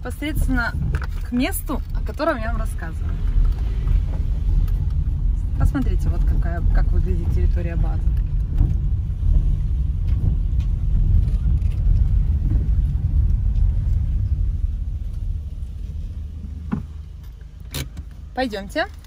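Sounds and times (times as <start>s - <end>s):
car rolling over stone paving: 0.2s - 17.4s.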